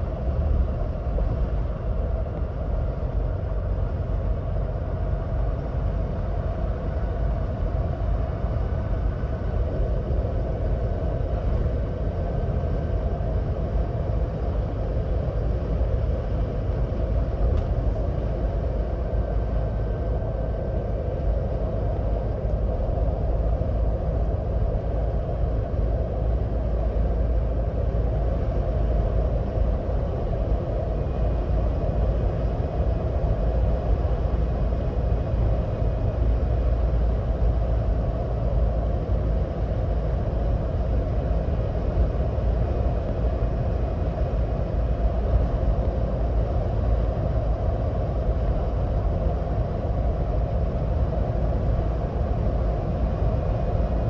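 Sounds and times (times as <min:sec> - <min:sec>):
road rumble and tyre noise: 0:00.0 - 0:54.0.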